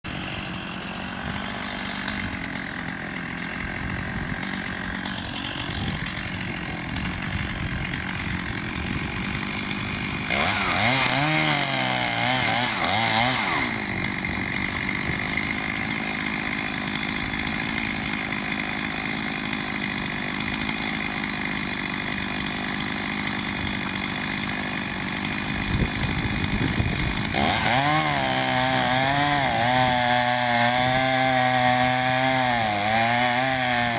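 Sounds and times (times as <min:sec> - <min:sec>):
chainsaw running and revving: 0:00.0 - 0:33.9.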